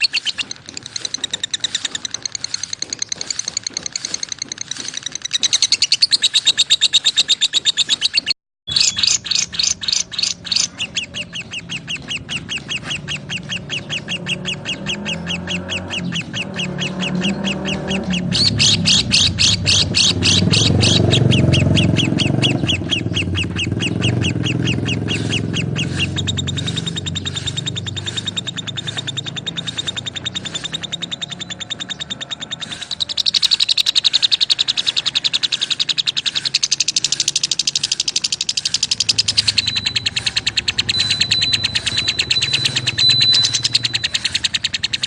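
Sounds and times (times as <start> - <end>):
lovebirds chirping: 0.0 - 45.0.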